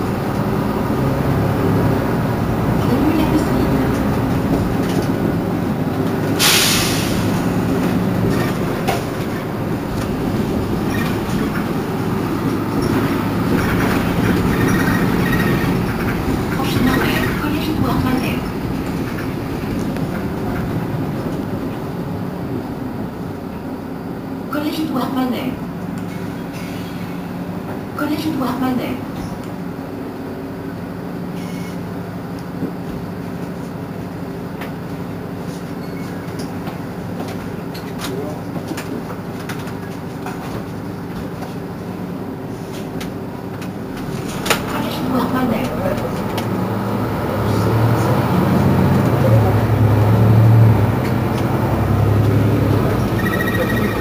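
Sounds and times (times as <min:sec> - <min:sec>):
bus body rattling: 0:00.0 - 0:24.8, 0:25.7 - 0:30.0, 0:30.6 - 0:54.0
bus engine drone: 0:00.0 - 0:54.0
road noise: 0:00.0 - 0:54.0.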